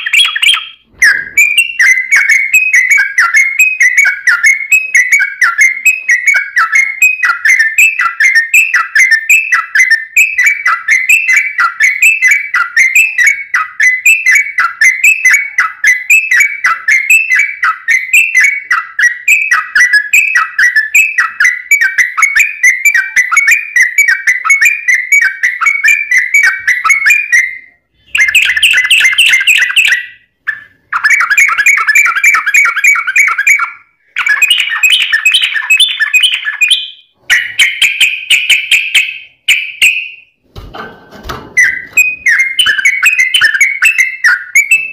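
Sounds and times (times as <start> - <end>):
bird singing rapid repeated notes: 0.0 - 40.4, 41.4 - 44.9.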